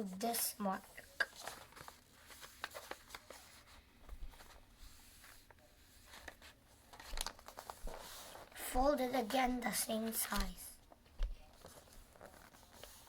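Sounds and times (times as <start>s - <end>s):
paper being folded and creased: 0.0s - 10.6s, 11.5s - 13.0s.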